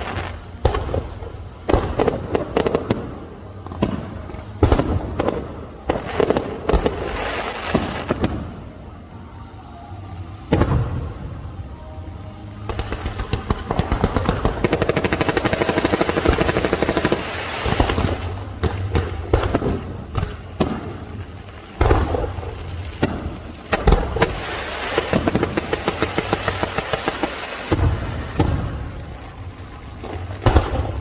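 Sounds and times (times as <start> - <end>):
fireworks crackling and banging: 0.0 - 9.4, 10.1 - 31.0
music playing: 0.0 - 31.0.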